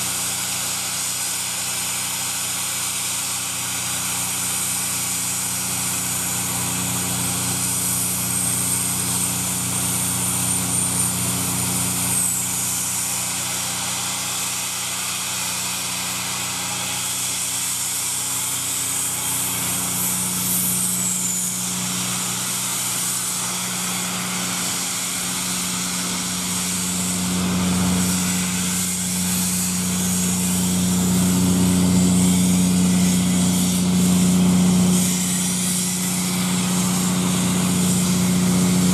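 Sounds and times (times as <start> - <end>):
steam locomotive hissing steam: 0.0 - 38.9.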